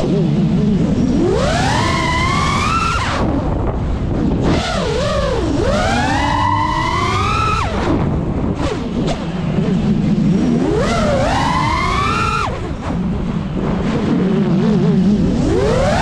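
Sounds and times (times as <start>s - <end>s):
drone motors and propellers whining: 0.0s - 16.0s.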